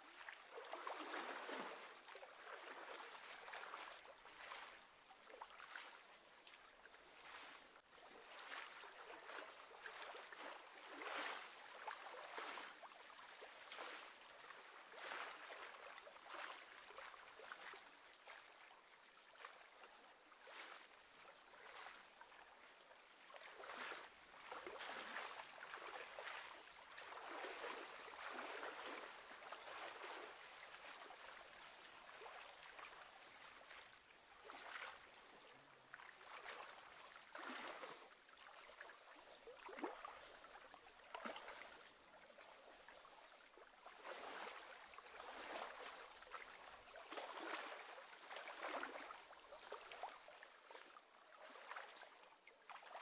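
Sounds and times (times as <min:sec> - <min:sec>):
waves lapping against shore: 0:00.1 - 0:52.1.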